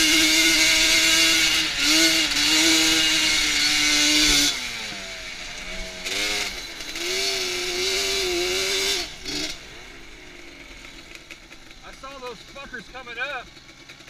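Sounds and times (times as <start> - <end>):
two-stroke quad engine revving: 0.0 - 14.0.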